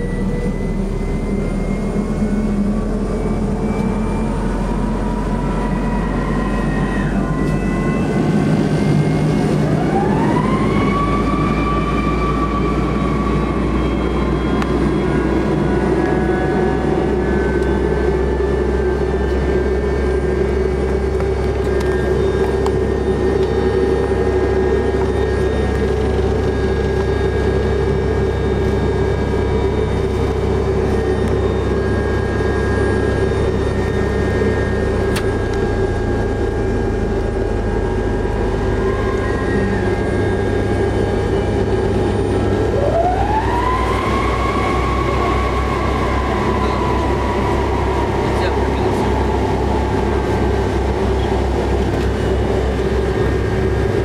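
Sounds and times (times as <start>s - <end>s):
constant jet drone: 0.0s - 54.0s
jet engine spooling up: 0.0s - 54.0s.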